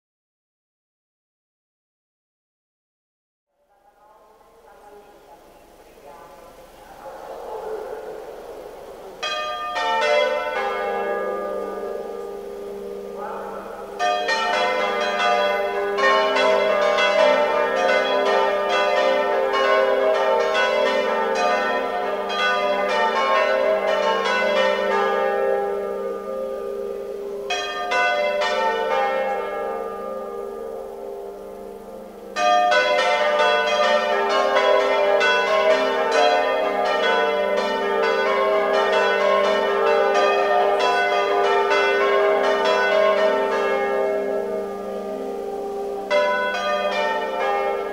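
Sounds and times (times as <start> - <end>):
church bells ringing: 4.0 - 47.9.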